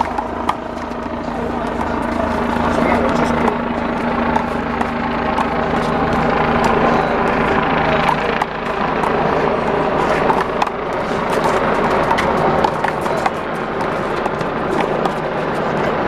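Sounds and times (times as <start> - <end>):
outdoor traffic noise: 0.0 - 16.0.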